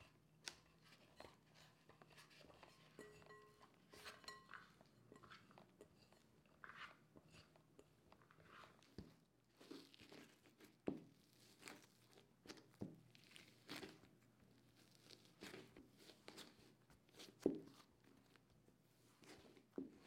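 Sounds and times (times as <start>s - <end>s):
hands kneading dough: 0.0s - 20.0s.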